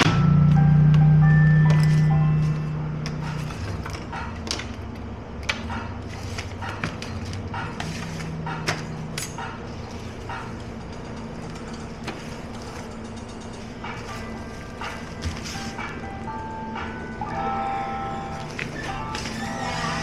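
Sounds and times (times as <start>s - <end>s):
music: 0.0s - 20.0s
steady low hum: 0.0s - 20.0s.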